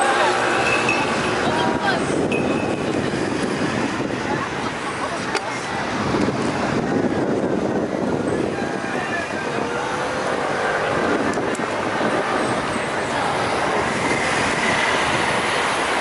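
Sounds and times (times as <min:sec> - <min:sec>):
bicycle road noise: 0:00.0 - 0:16.0
passing vehicle traffic: 0:00.0 - 0:16.0
rushing wind: 0:00.0 - 0:16.0.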